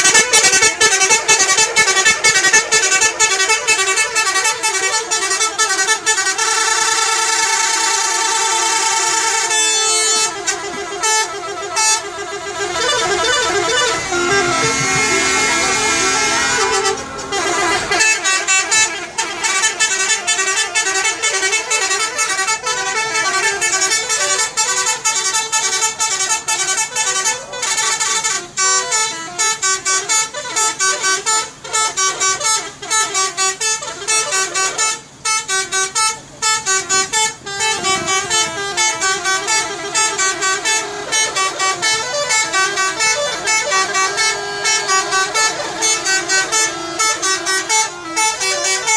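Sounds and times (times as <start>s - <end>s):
multi-tone musical bus horn: 0.0s - 48.9s.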